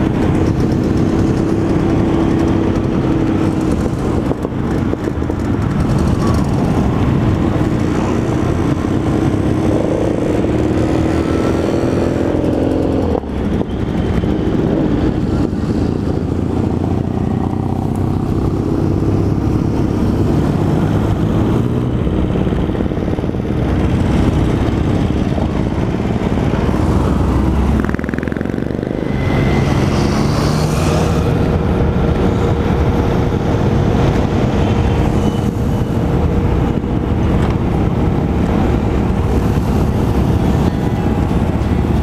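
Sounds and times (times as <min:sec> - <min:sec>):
motorcycle engines running: 0:00.0 - 0:42.0
wind rumble on microphone: 0:00.0 - 0:42.0.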